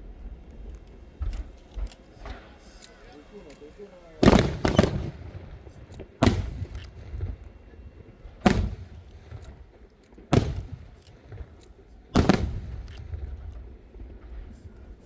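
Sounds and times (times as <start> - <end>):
firework shells booming: 0.6 - 15.0.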